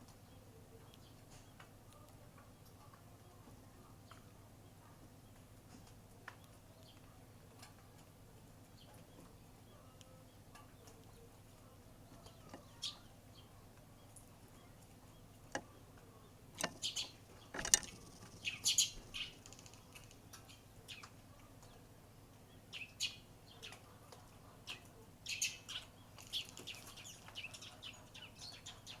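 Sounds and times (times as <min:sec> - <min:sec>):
sparrows chirping: 0:00.0 - 0:29.0.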